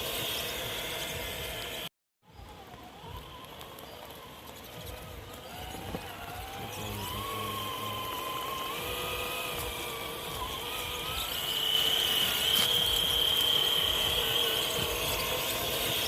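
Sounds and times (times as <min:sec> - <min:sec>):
rc car electric motor whining: 0:00.0 - 0:16.0.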